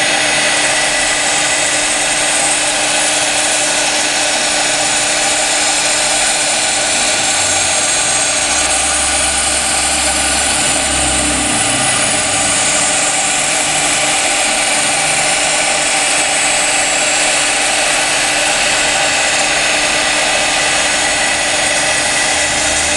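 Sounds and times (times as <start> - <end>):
router spindle engraving glass: 0.0 - 22.9
low hum: 2.7 - 22.9.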